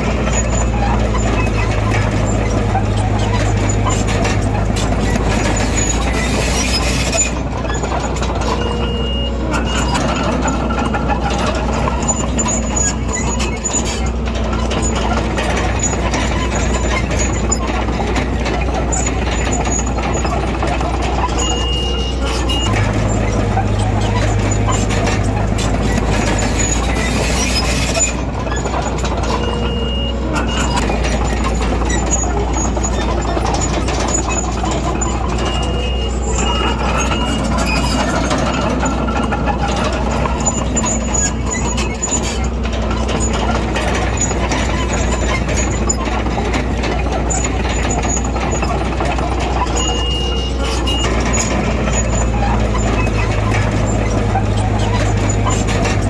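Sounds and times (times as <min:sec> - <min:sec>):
heavy diesel machinery droning: 0:00.0 - 0:56.0.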